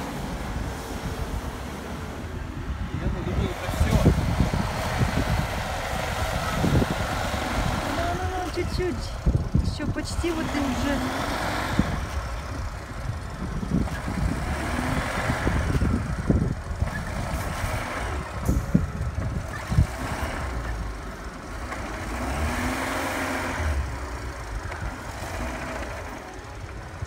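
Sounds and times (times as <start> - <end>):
off-road vehicle engine revving: 2.9 - 27.0.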